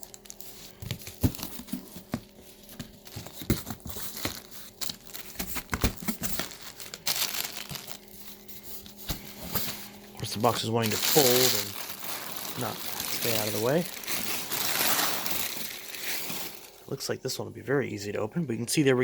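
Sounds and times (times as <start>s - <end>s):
cardboard box being opened: 0.3s - 8.0s, 8.8s - 16.7s.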